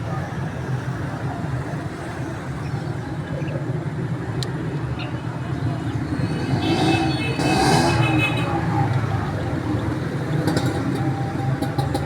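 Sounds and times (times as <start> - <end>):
street and market rumble: 0.0 - 12.0.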